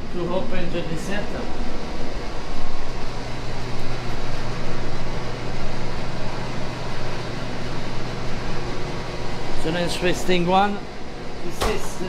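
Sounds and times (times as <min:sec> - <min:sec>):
exhaust fan rushing hum: 0:00.0 - 0:12.0.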